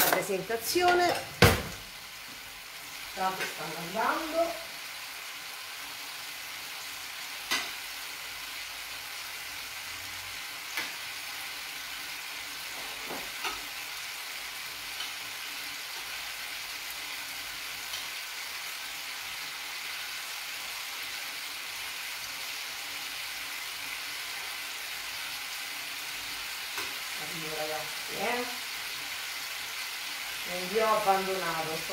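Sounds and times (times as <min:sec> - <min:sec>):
meat sizzling in a frying pan: 0:00.0 - 0:31.9.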